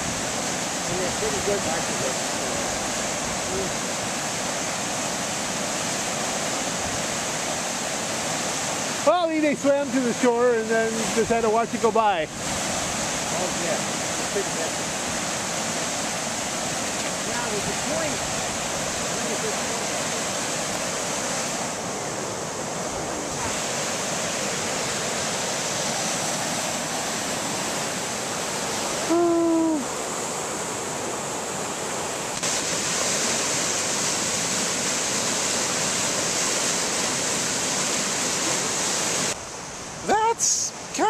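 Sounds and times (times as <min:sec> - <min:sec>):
river rapids roaring: 0:00.0 - 0:41.0.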